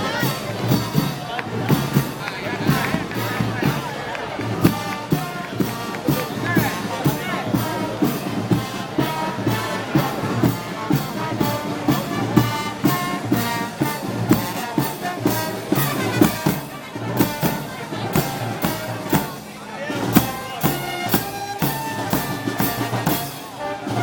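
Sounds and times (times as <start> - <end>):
brass band march: 0.0 - 24.0
steady drum beat: 0.0 - 24.0.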